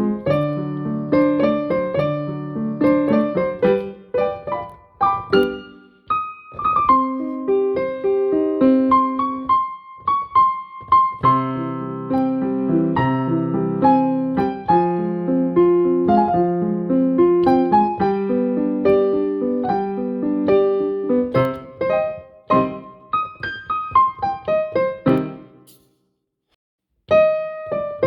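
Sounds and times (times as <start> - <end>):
piano music: 0.0 - 25.7, 27.1 - 28.0.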